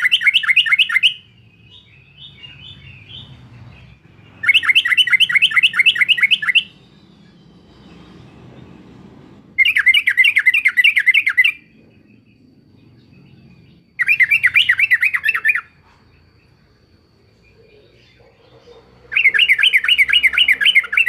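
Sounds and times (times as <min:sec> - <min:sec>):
bird chattering calls: 0:00.0 - 0:08.4, 0:09.6 - 0:16.6, 0:17.2 - 0:21.0.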